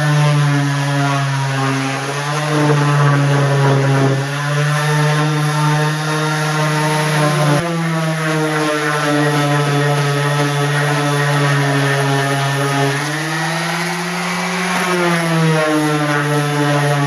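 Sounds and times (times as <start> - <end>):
electric power tool motor: 0.0 - 17.0.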